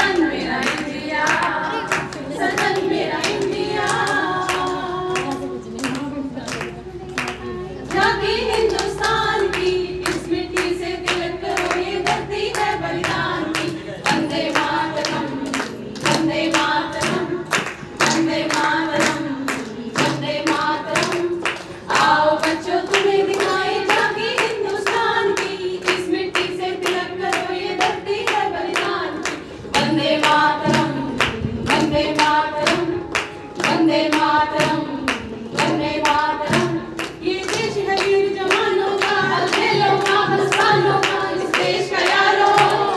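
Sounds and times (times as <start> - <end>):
hand claps: 0.0 - 42.9
women singing: 0.0 - 42.9.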